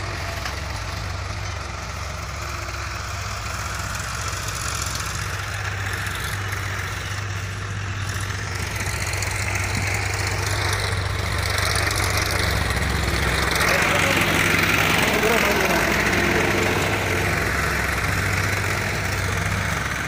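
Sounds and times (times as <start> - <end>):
diesel tractor engine droning: 0.0 - 20.0.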